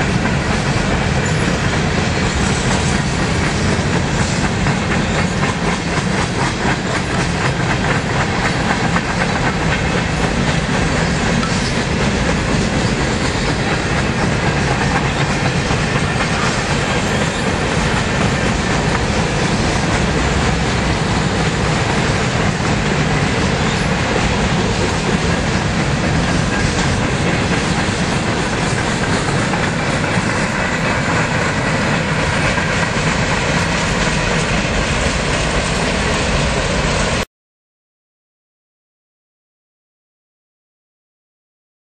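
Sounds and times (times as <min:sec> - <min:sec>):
train wheels rumbling: 0:00.0 - 0:37.3
wheels clicking over rail joints: 0:00.1 - 0:36.8.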